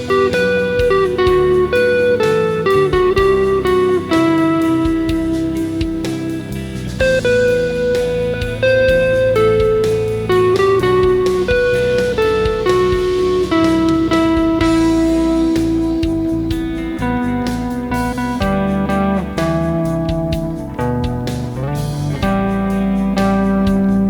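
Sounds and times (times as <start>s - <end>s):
electric guitar lead: 0.0s - 24.0s
rock backing track with drums: 0.0s - 24.0s.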